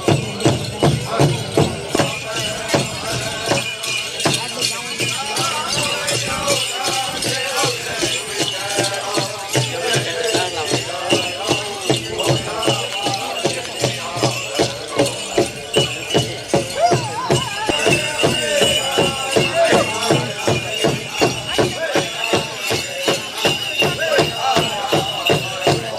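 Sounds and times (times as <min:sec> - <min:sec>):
big drum beating: 0:00.0 - 0:25.9
bright jingling: 0:00.0 - 0:25.9
group singing: 0:00.0 - 0:25.9.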